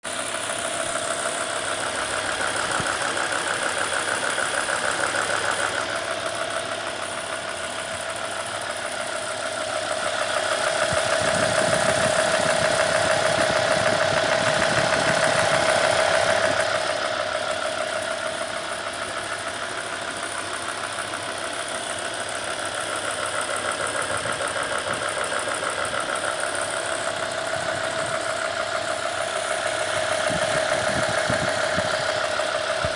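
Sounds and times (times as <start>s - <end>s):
car engine idling: 0.0s - 32.9s
fast engine ticking: 0.0s - 32.9s.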